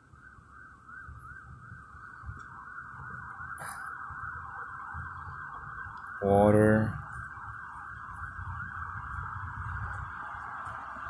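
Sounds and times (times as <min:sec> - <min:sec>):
emergency siren yelping: 0:00.0 - 0:11.0.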